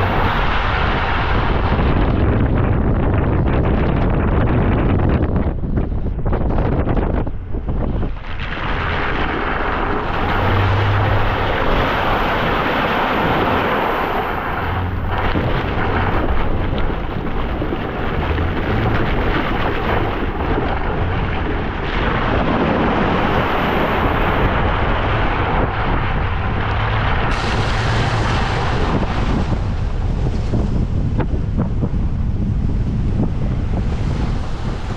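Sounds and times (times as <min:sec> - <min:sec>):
wind noise on microphone: 0:00.0 - 0:34.9.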